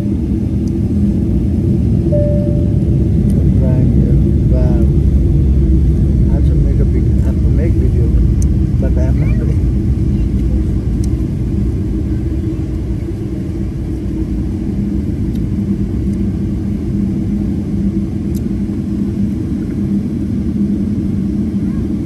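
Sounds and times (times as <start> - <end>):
airliner cabin rumble: 0.0 - 22.0
steady low hum: 0.0 - 22.0.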